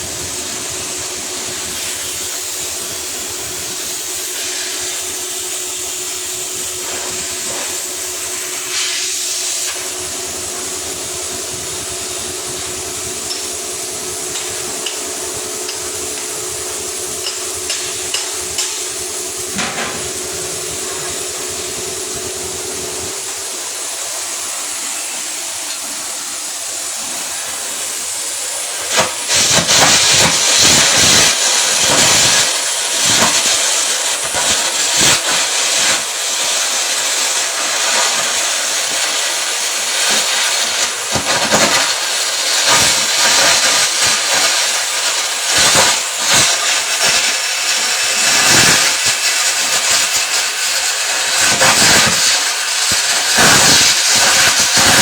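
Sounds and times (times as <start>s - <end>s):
welding arc crackling and sizzling: 0.0s - 55.0s
welding hiss with faint hum: 0.0s - 55.0s.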